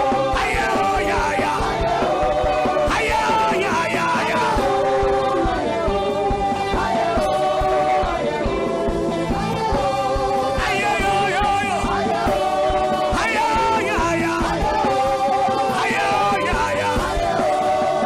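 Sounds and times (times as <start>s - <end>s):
steady beat: 0.0s - 17.8s
person singing: 0.0s - 18.0s.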